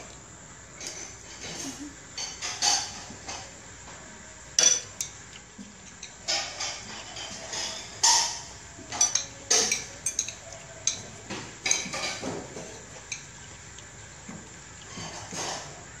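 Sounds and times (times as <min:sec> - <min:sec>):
cutlery clinking on plates: 0:00.8 - 0:03.5, 0:04.6 - 0:13.4, 0:14.3 - 0:15.8.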